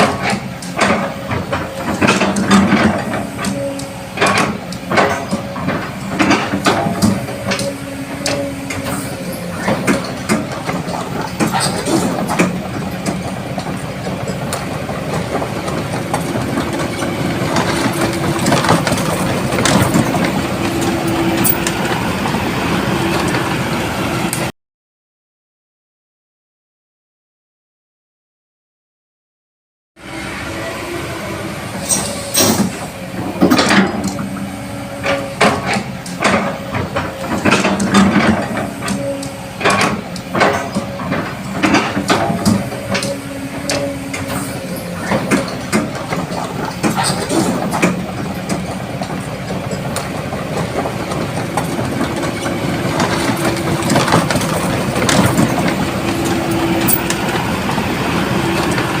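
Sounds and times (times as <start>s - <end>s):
metal clanks and knocks: 0.0s - 21.8s, 31.9s - 34.4s, 35.0s - 57.8s
excavator diesel engine running: 0.0s - 24.5s, 30.0s - 59.0s.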